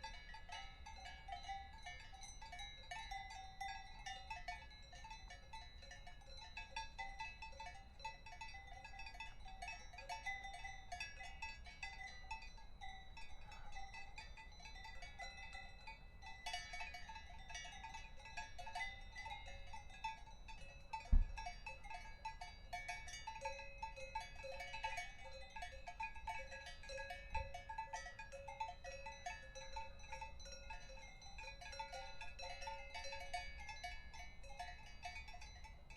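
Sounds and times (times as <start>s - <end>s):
cowbells clanking: 0.0s - 35.9s.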